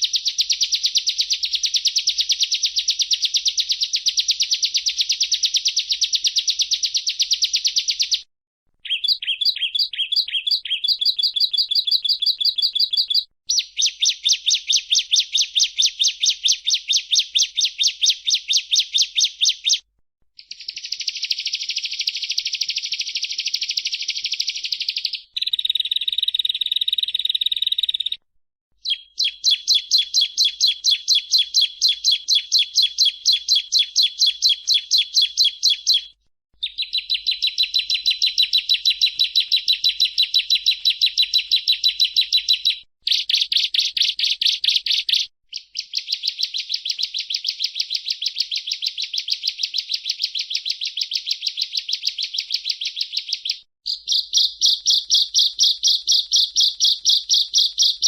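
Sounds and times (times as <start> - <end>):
bird singing high-pitched chirps: 0.0 - 8.2, 8.8 - 19.8, 20.4 - 28.2, 28.8 - 58.0
bird trill: 0.0 - 8.2, 8.8 - 19.8, 20.4 - 28.2, 28.8 - 58.0.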